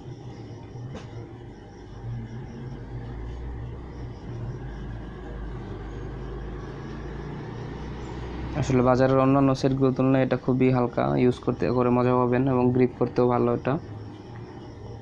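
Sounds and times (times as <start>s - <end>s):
faint hum: 0.0s - 15.0s
low traffic rumble: 0.0s - 15.0s.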